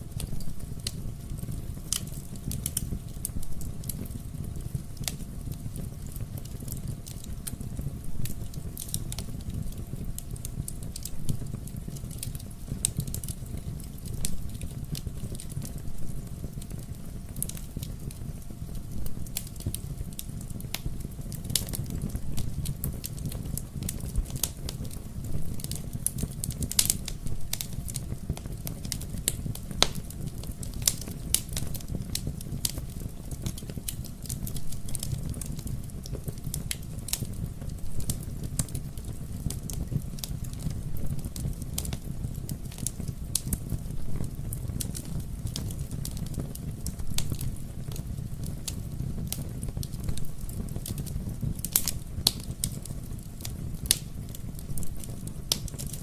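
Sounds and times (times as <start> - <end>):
fire crackling in a fireplace: 0.0 - 56.0.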